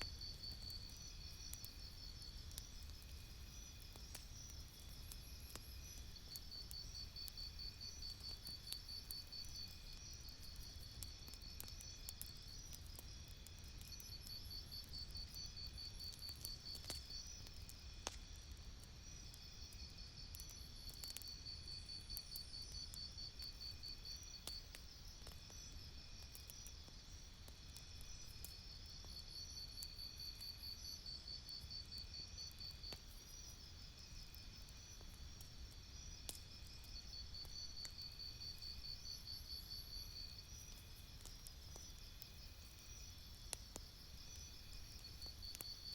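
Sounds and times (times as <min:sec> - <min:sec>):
campfire crackling and popping: 0:00.0 - 0:45.9
insects trilling: 0:00.0 - 0:45.9.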